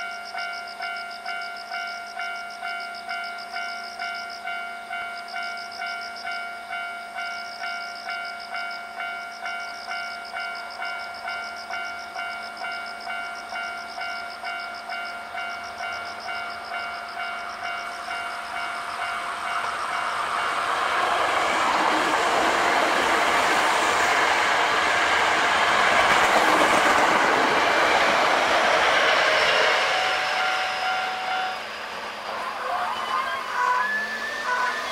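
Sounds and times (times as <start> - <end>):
electric train approaching: 0.0 - 34.9
level crossing warning bell: 0.0 - 34.9.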